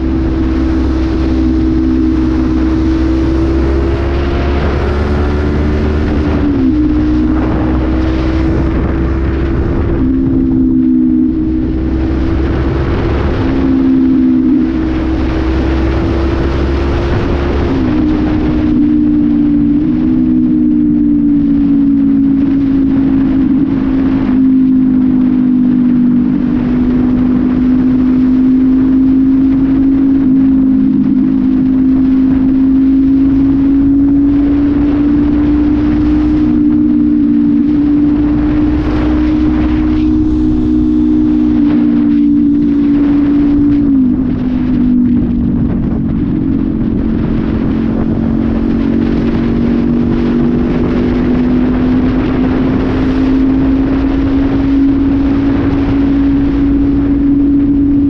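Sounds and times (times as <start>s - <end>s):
motorcycle engine cruising: 0.0s - 58.0s
wind rush: 0.0s - 58.0s.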